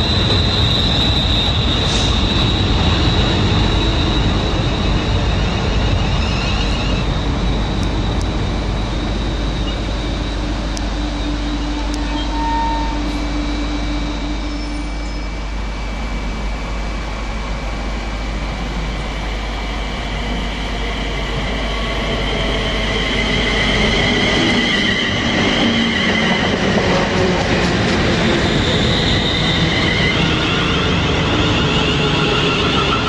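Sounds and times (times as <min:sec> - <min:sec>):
electric train whine: 0:00.0 - 0:33.0
train passing with loud rush: 0:00.0 - 0:33.0.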